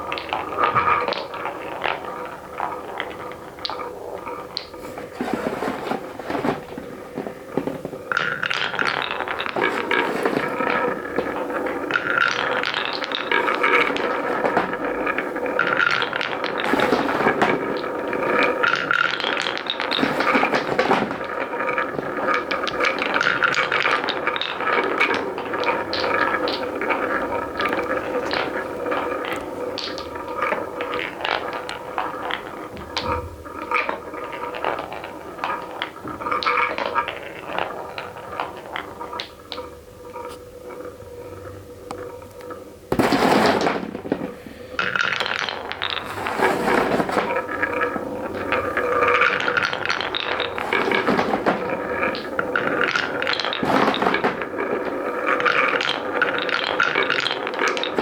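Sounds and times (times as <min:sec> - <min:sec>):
marbles rushing bursts: 0:00.0 - 0:32.7, 0:42.9 - 0:58.0
marbles rolling on wooden track: 0:00.0 - 0:58.0.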